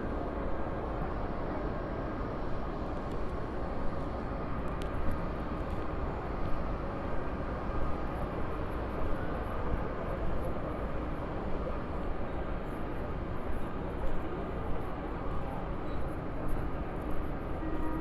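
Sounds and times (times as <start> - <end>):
railway station rumble and hum: 0.0 - 18.0.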